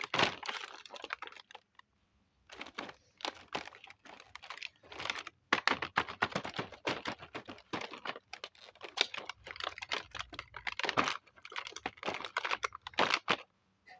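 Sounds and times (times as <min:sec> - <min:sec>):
plastic toy pieces clicking: 0:00.0 - 0:01.8, 0:02.5 - 0:13.5
rustling: 0:00.0 - 0:13.5.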